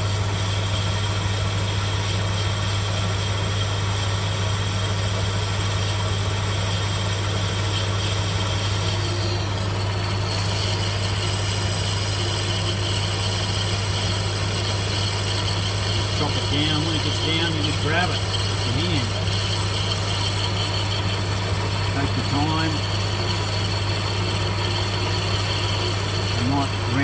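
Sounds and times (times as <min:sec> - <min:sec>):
high whine of tool cutting metal: 0:00.0 - 0:27.0
lathe motor hum: 0:00.0 - 0:27.0.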